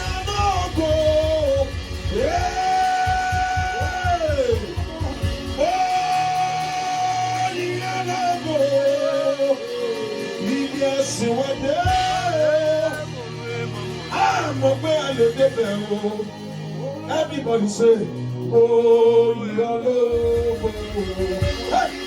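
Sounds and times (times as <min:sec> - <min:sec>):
drums beating: 0:00.0 - 0:16.2, 0:20.1 - 0:22.0
bass: 0:00.0 - 0:22.0
person singing sustained notes: 0:00.0 - 0:22.0.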